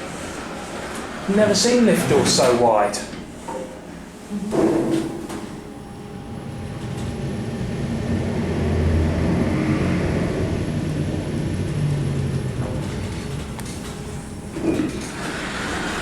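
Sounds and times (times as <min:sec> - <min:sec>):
lift hum and ride rumble: 0:00.0 - 0:16.0.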